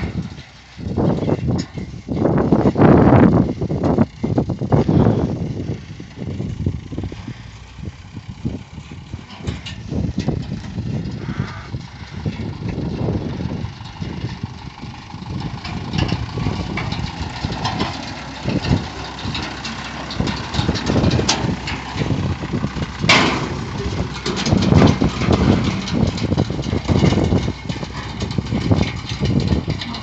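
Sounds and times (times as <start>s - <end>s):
engine running steadily: 0.0s - 30.0s
machinery rattling and clicking: 0.0s - 30.0s.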